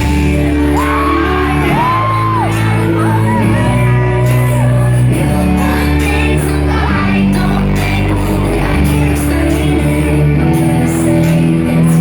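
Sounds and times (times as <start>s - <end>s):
crowd shouting and whooping: 0.0s - 10.3s.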